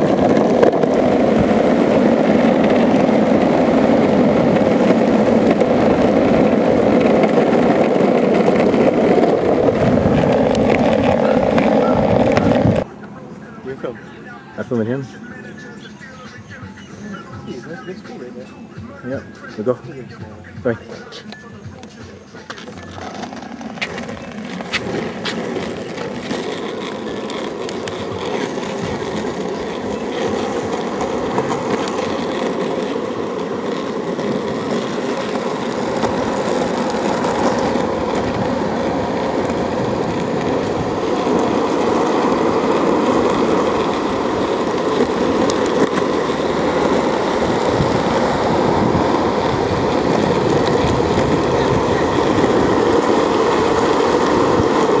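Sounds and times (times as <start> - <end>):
longboard wheels rolling on asphalt: 0.0 - 55.0.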